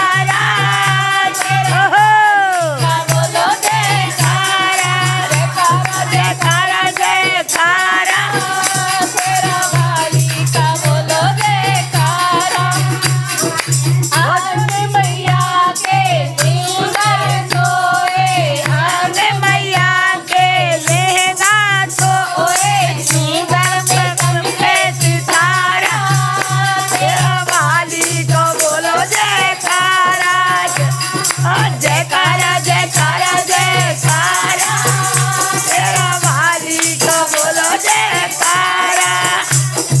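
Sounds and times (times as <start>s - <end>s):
jingling percussion: 0.0s - 40.0s
women singing devotional song: 0.0s - 40.0s.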